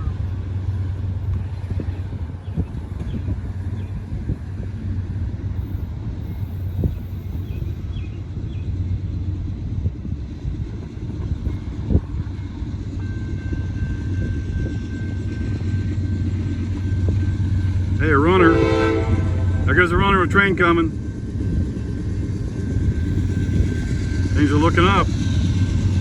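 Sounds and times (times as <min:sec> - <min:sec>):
diesel freight train rumble: 0:00.0 - 0:26.0.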